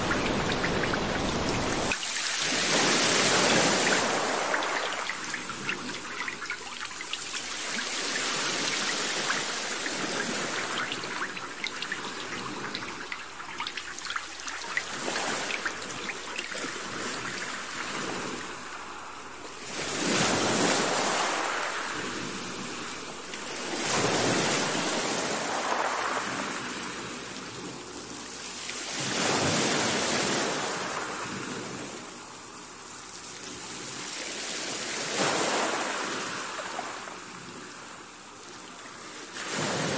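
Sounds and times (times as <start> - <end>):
rain and flowing floodwater hiss: 0.0 - 39.9.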